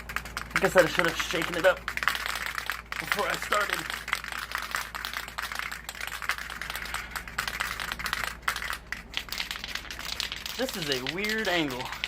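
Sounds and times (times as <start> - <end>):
aerosol can rattling: 0.0 - 12.0.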